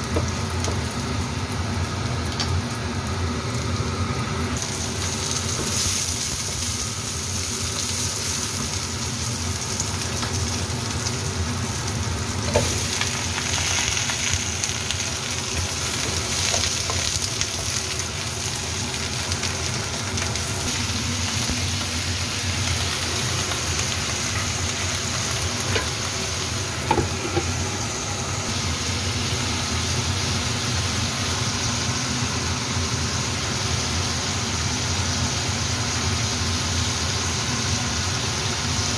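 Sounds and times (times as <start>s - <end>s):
food sizzling in oil: 0.0s - 38.9s
steady hum: 1.0s - 33.6s
spatula stir-frying in wok: 4.6s - 38.9s.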